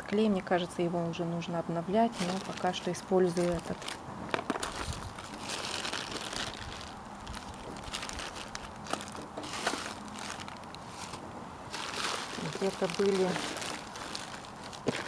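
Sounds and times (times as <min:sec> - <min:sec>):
rustling and crinkling: 0:02.0 - 0:15.0.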